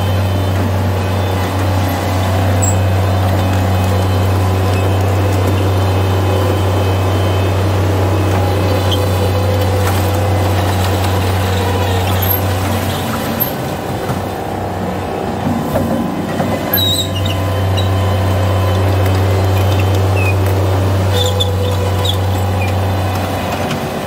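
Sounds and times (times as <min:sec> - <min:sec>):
loader diesel engine running: 0:00.0 - 0:24.0.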